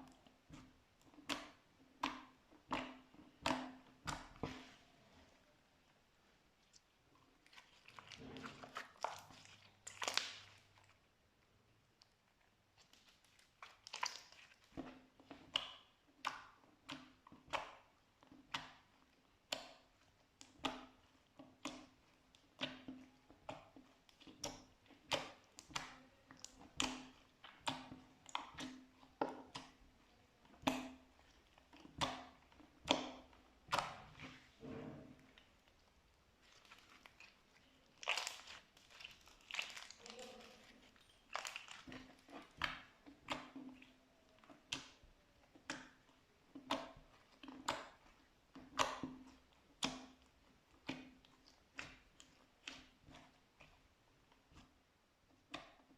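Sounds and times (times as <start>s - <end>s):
slime squeezed with wet pops: 0.0s - 4.8s, 6.6s - 11.1s, 11.8s - 55.9s.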